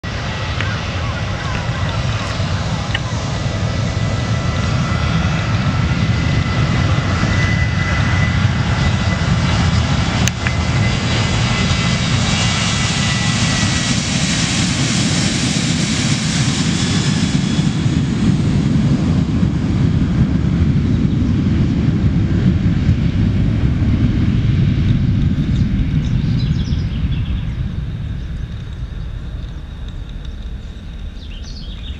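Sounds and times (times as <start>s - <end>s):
jet engines at takeoff: 0.0s - 31.9s.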